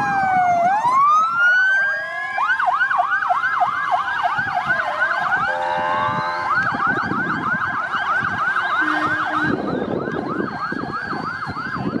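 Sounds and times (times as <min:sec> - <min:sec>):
fire engine sirens yelping: 0:00.0 - 0:12.0
fire vehicle engines rumbling: 0:00.0 - 0:12.0.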